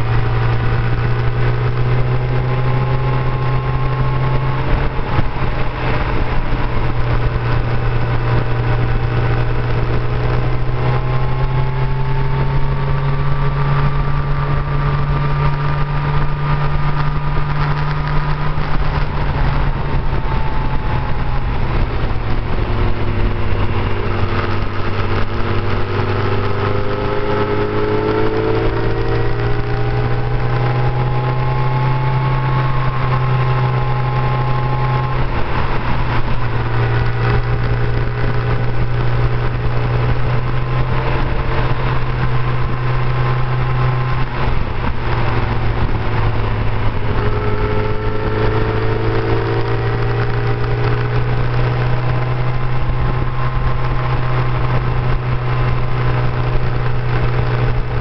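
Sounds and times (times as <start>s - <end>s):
motorcycle engine: 0.0s - 58.0s
wind rushing: 0.0s - 58.0s.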